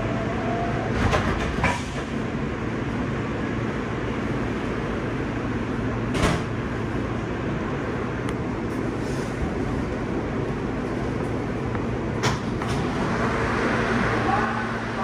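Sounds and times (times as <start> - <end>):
subway train car rumble: 0.0 - 15.0.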